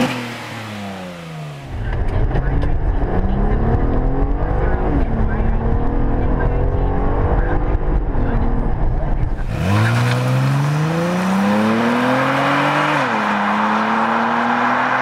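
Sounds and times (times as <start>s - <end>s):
car engine accelerating: 0.0s - 15.0s
low road rumble: 0.0s - 15.0s.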